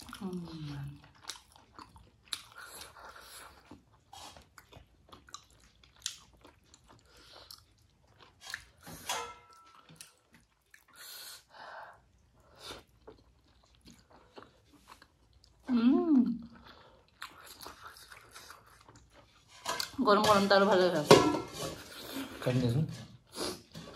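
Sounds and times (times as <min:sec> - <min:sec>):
chewing dumplings: 0:00.0 - 0:20.6.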